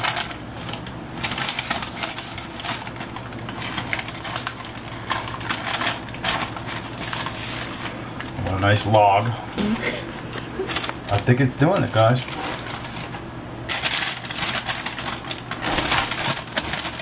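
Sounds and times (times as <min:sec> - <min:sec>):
parchment paper crinkling: 0:00.0 - 0:09.0, 0:10.4 - 0:17.0
low steady hum: 0:00.0 - 0:17.0.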